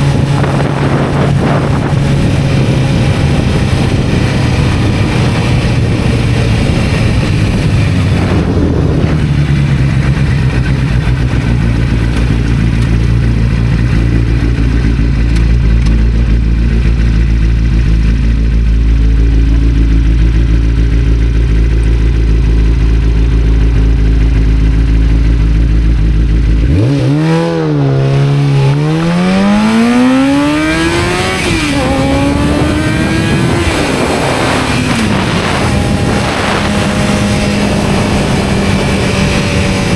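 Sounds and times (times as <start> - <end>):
motorcycle engine rumbling: 0.0 - 39.9
motorcycle revving up: 0.0 - 39.9.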